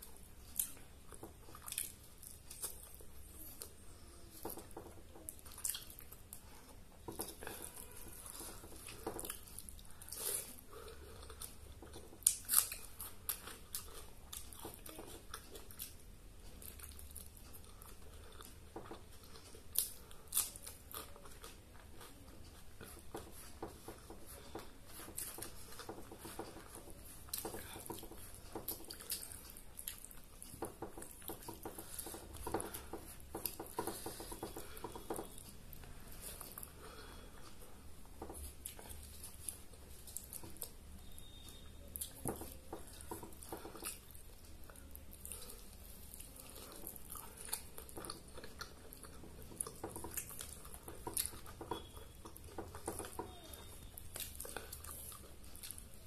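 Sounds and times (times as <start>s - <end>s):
person chewing and lip smacking: 0.0s - 56.0s.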